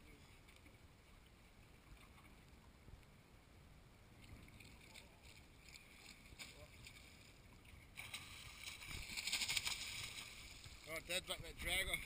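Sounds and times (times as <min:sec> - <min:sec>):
wind and water around boat: 0:00.0 - 0:12.0.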